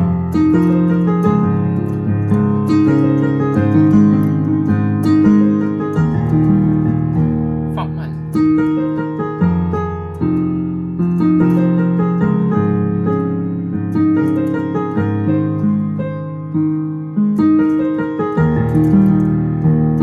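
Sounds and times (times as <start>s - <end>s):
slow piano playing: 0.0s - 20.0s.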